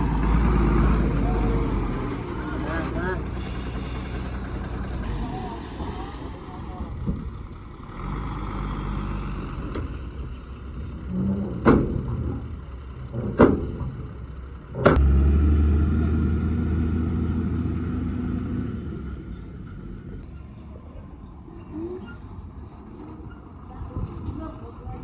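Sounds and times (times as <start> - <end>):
heavy vehicle engine running: 0.0 - 20.7.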